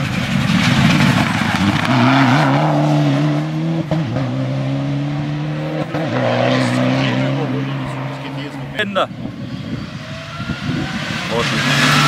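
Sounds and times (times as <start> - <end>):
rally car engine at full throttle: 0.0 - 12.0
road and tyre noise: 0.0 - 12.0.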